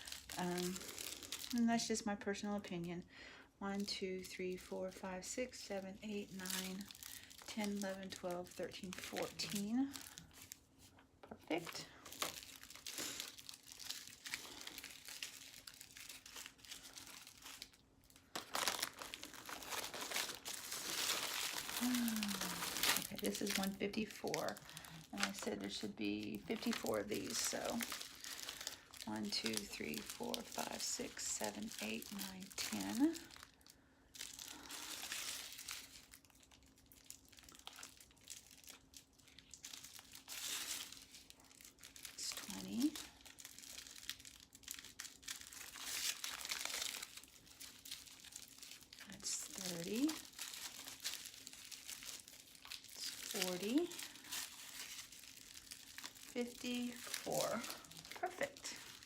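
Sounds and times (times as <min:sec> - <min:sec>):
plastic bags crinkling: 0:00.0 - 0:02.2, 0:03.8 - 0:59.0
low steady hum: 0:00.0 - 0:59.0.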